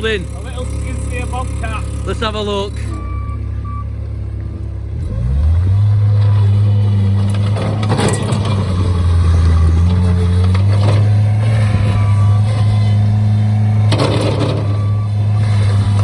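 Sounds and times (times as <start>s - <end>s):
loader engine revving: 0.0s - 16.0s.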